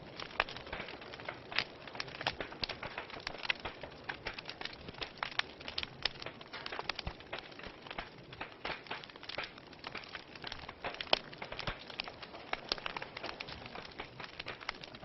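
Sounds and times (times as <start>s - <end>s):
logs crackling and popping: 0.0s - 15.0s
soft fire hiss: 0.0s - 15.0s.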